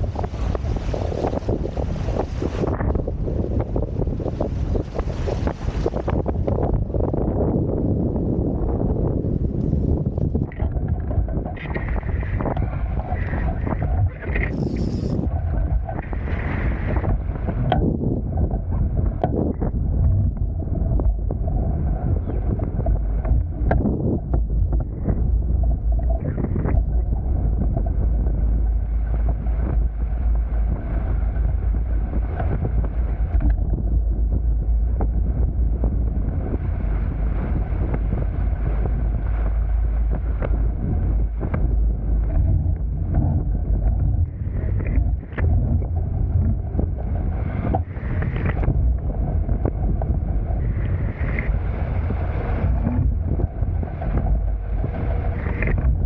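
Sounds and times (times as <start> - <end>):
water rushing along hulls: 0.0 - 56.0
wind buffeting microphone: 0.0 - 56.0.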